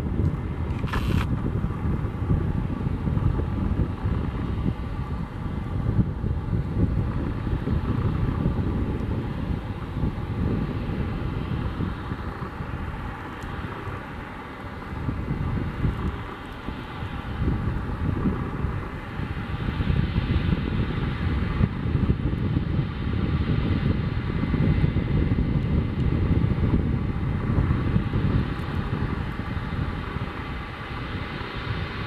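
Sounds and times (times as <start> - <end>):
jet engines taxiing: 0.0 - 32.0.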